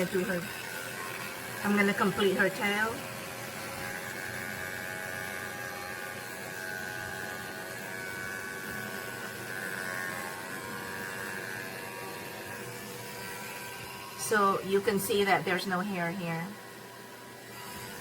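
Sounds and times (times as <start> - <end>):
pet grooming vacuum humming: 0.0 - 18.0.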